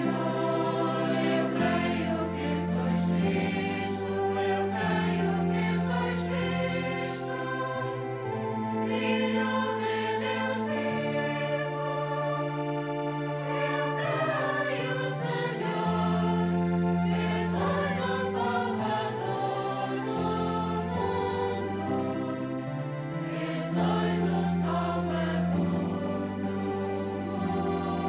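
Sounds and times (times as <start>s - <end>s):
church choir singing a hymn: 0.0s - 28.0s.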